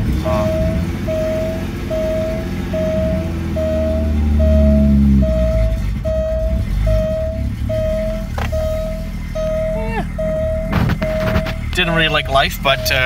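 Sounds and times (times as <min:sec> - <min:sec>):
car engine starting and idling: 0:00.0 - 0:13.0
warning beep: 0:00.3 - 0:13.0.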